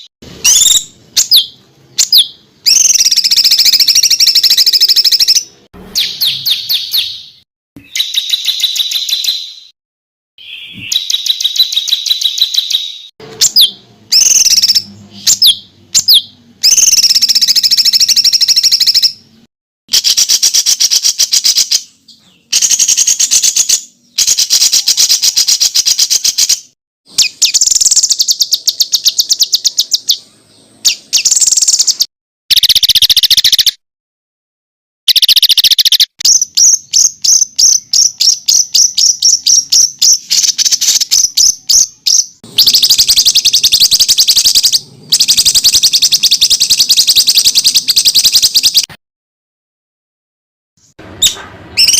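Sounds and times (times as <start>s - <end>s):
songbird singing rapid high notes: 0.0s - 9.7s, 10.4s - 19.2s, 19.9s - 33.8s, 35.1s - 48.9s.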